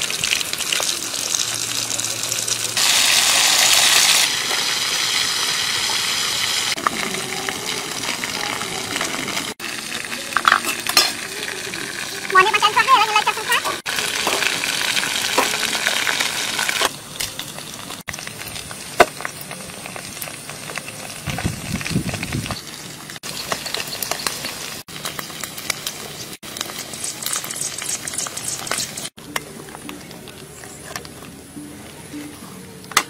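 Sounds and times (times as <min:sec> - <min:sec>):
oil sizzling and crackling: 0:00.0 - 0:31.6.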